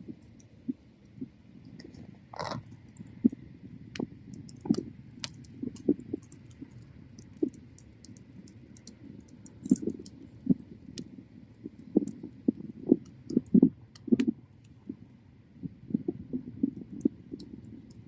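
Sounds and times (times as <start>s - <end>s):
low rumble of flames: 0.0s - 18.0s
bonfire crackling: 0.1s - 14.8s.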